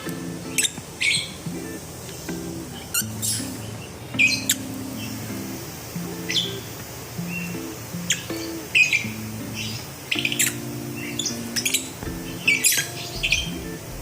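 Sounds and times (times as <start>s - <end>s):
lovebirds chirping and squawking: 0.0s - 5.6s, 6.2s - 14.0s
background music with low notes: 0.0s - 14.0s.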